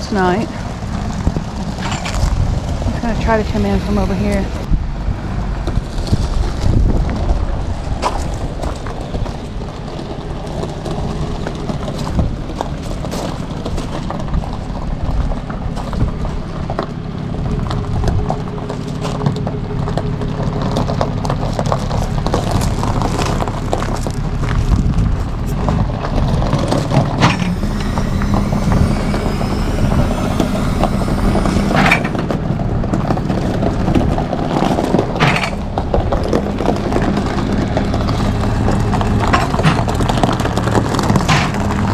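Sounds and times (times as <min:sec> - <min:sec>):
truck engine rumbling: 0:00.0 - 0:41.9.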